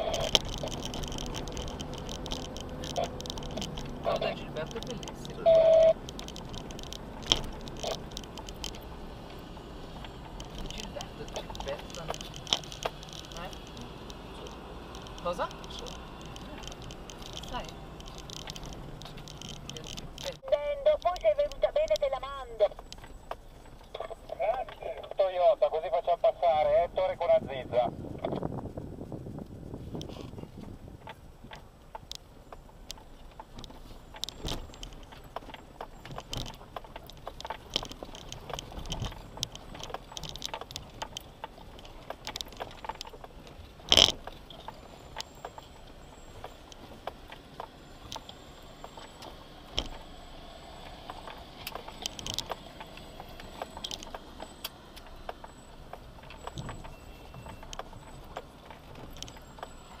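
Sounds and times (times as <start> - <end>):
vehicle rattling over gravel: 0.0 - 60.0.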